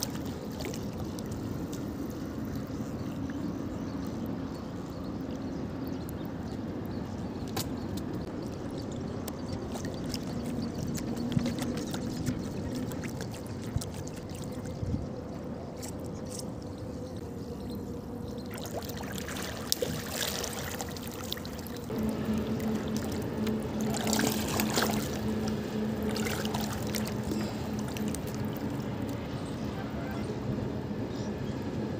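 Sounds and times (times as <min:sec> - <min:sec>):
water trickling and sloshing: 0:00.0 - 0:30.4
faint steady hum: 0:00.0 - 0:31.9.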